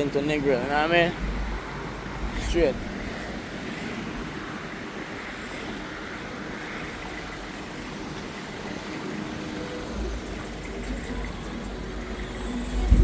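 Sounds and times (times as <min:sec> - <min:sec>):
vehicle road and wind noise: 0:00.0 - 0:13.0.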